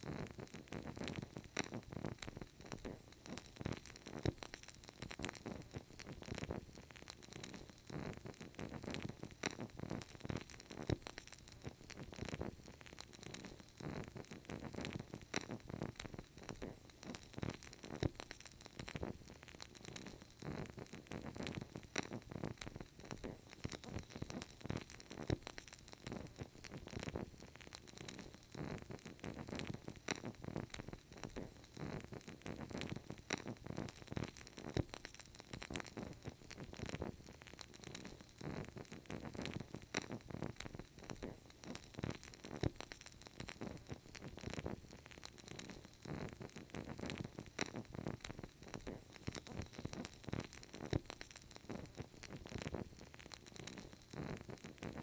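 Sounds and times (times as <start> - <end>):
candle crackling: 0.0 - 55.0.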